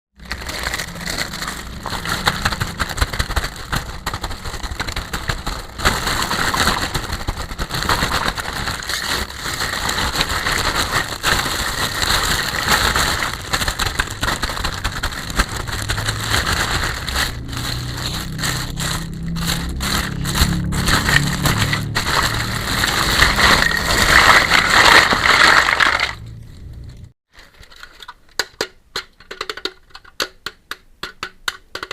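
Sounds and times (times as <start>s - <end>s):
plastic packaging crinkling: 0.2s - 28.2s.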